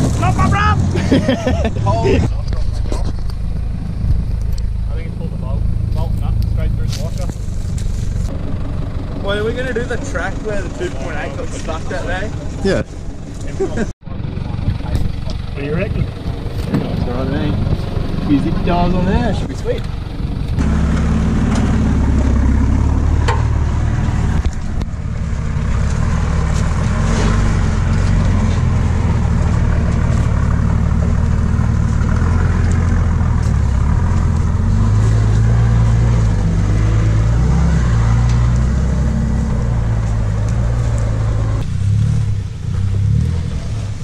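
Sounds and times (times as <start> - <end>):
diesel engine running at low revs: 0.0 - 44.0.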